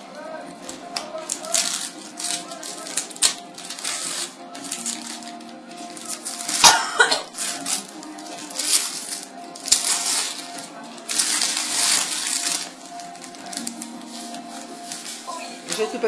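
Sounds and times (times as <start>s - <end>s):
wrapping paper crinkling and tearing: 0.0s - 16.0s
tape peeling: 0.6s - 15.9s.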